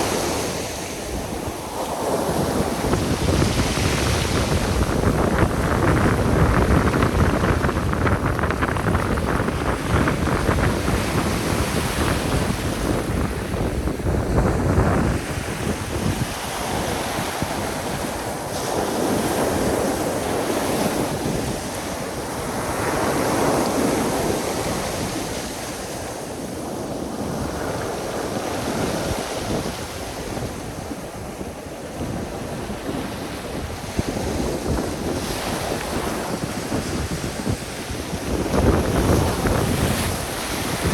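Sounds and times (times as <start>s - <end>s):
sea waves breaking on shore: 0.0s - 40.9s
wind buffeting microphone: 0.0s - 40.9s.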